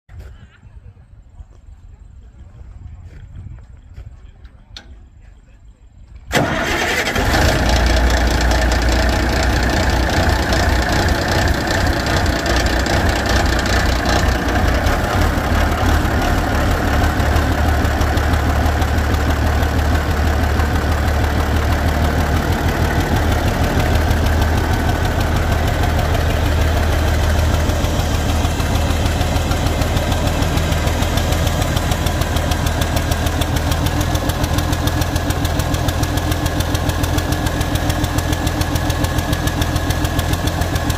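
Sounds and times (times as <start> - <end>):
diesel engine starting and running: 6.1 - 40.9.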